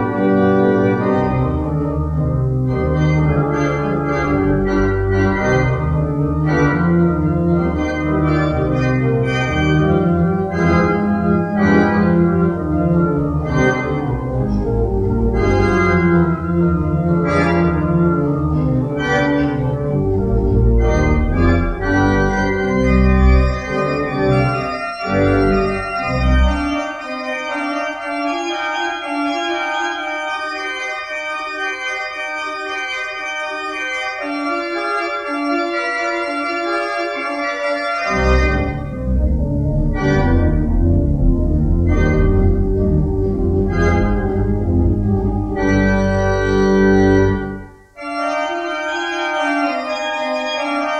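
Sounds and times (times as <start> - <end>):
organ playing a hymn: 0.0 - 50.9.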